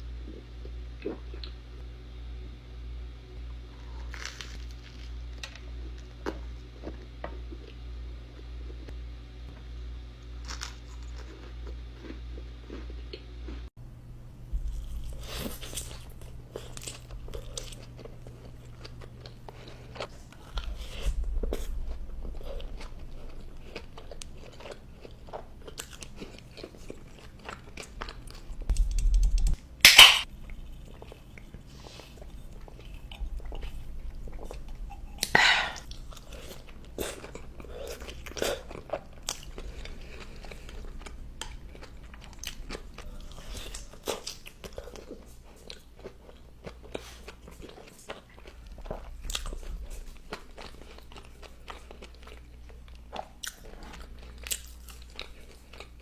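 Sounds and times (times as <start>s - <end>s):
crunchy bites and chewing: 3.8s - 7.7s, 10.4s - 13.6s, 14.5s - 56.0s.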